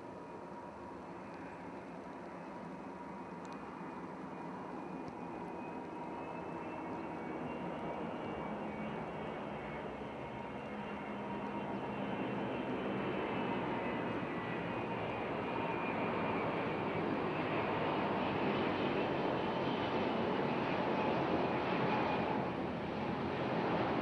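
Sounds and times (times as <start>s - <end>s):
thin steady jet whine: 0.0s - 24.0s
jet aircraft rush: 0.1s - 24.0s.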